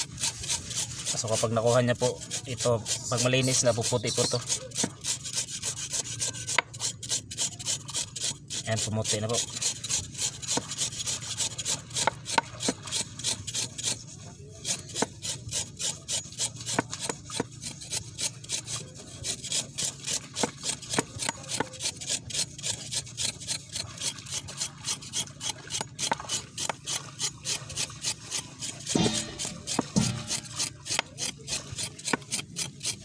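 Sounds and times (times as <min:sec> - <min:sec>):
knife scraping skin: 0:00.0 - 0:33.0.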